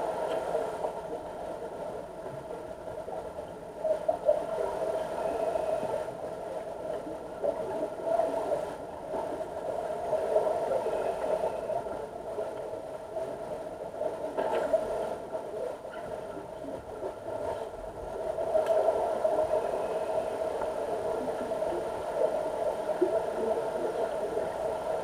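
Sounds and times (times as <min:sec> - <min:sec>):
muffled underwater hum: 0:00.0 - 0:25.0.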